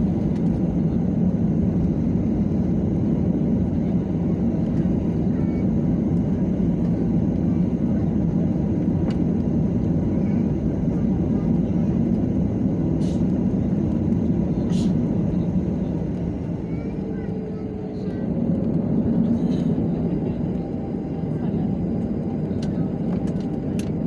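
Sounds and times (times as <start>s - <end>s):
jet engine rumble inside cabin: 0.0s - 24.0s.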